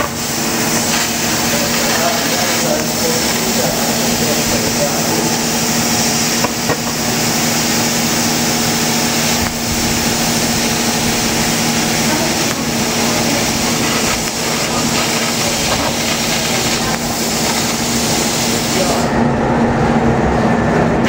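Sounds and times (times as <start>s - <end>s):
laser cutter hissing: 0.0s - 19.2s.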